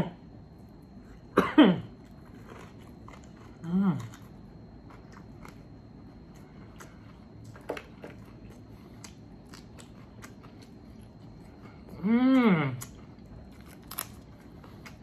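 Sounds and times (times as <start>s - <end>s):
person chewing crispy food: 1.9s - 15.0s.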